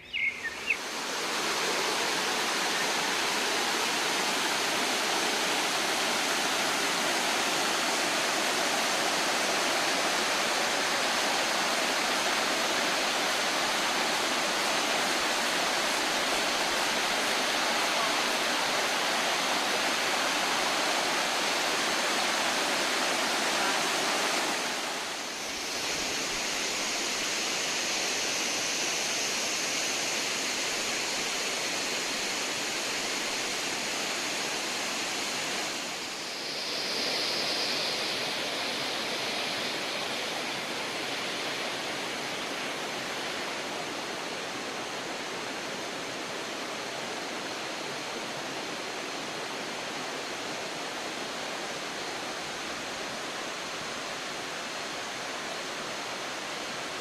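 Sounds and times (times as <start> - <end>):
waterfall rushing: 0.6 - 57.0.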